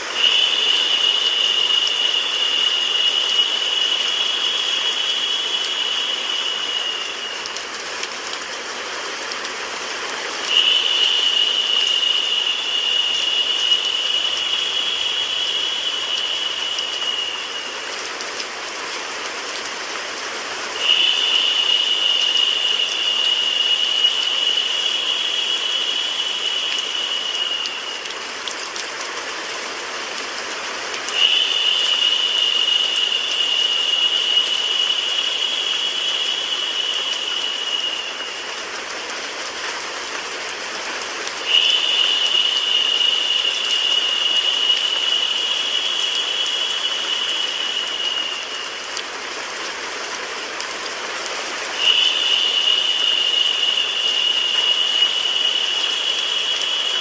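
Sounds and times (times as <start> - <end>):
higher narrow hiss: 0.0 - 18.7, 20.4 - 28.7, 30.7 - 40.0, 41.0 - 50.4, 51.0 - 57.0
rain hiss with white noise: 0.0 - 57.0.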